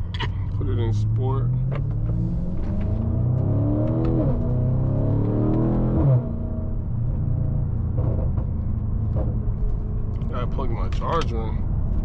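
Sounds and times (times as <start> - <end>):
car engine accelerating: 0.0 - 10.5.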